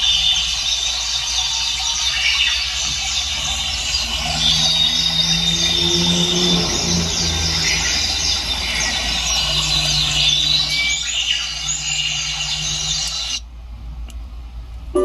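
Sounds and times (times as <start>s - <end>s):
recorded bird chorus: 0.0s - 13.4s
steady low hum: 0.0s - 15.0s.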